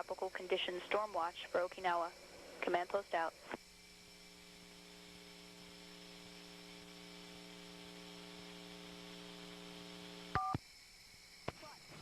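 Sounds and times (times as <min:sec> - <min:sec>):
low electrical hum: 0:00.0 - 0:10.6
light hiss: 0:00.6 - 0:12.0.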